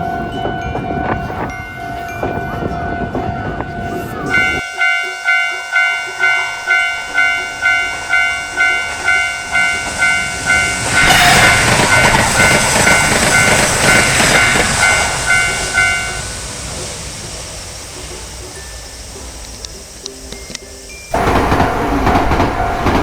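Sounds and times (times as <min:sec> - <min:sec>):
level crossing warning bell: 0:00.0 - 0:17.0, 0:18.0 - 0:23.0
passing train rushing: 0:00.0 - 0:23.0.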